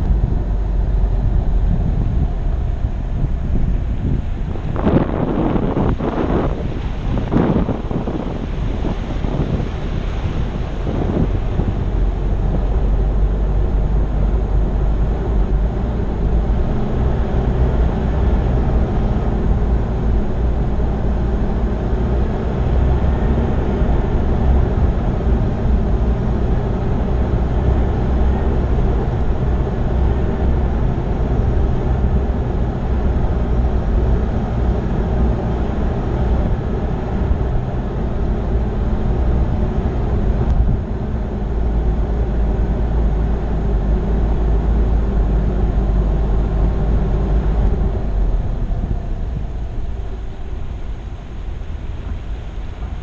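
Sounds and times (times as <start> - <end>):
engine drone: 0.0 - 53.0.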